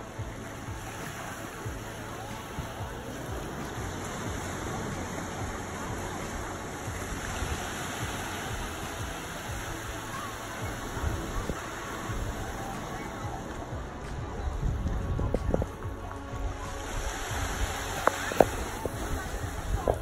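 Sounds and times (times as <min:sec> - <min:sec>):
small waves breaking on shore: 0:00.0 - 0:20.0
wind rumbling on microphone: 0:00.0 - 0:20.0.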